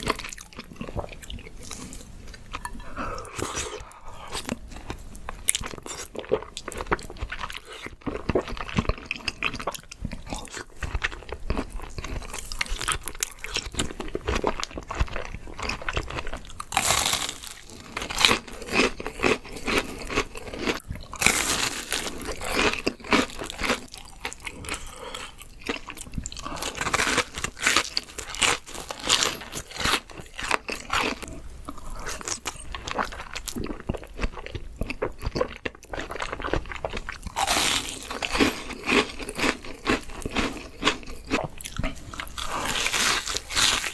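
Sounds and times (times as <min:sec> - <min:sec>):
crunching and chewing crispy food: 0:00.0 - 0:43.9.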